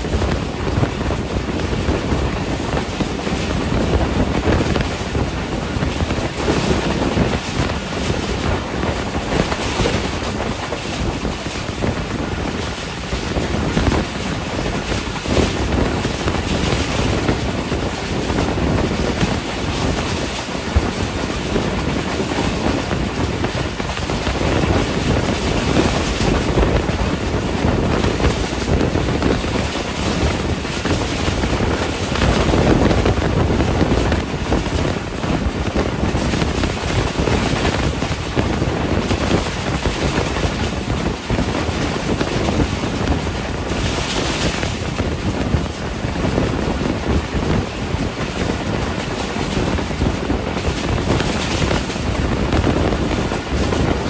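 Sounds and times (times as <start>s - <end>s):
train wheels rumbling on rails: 0.0s - 54.0s
wind buffeting microphone: 0.0s - 54.0s.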